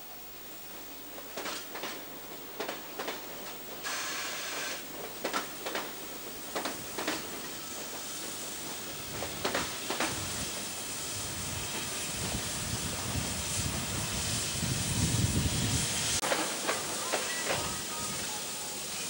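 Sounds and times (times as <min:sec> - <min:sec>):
steam hissing: 0:00.0 - 0:19.0
steam locomotive chuffs: 0:00.0 - 0:19.0.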